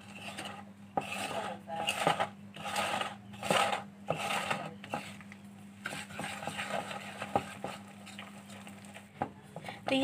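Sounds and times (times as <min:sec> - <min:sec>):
whisk stirring batter: 0:00.0 - 0:10.0.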